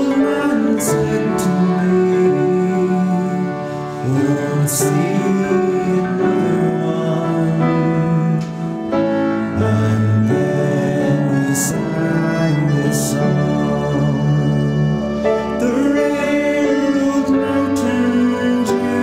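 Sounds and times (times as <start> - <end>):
student ensemble playing held chords: 0.0 - 19.0.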